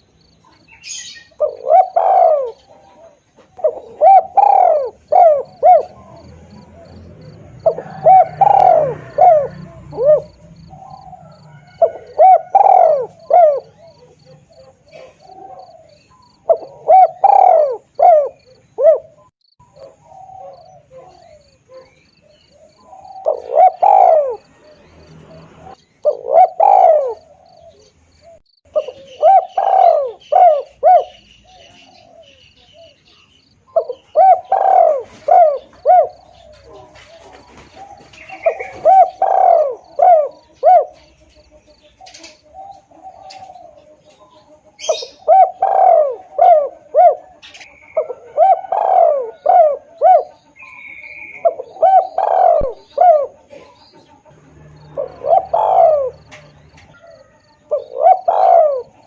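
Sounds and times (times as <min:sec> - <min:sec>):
dove cooing: 0:00.0 - 0:59.0
faint insect-like chirping: 0:00.0 - 0:59.0.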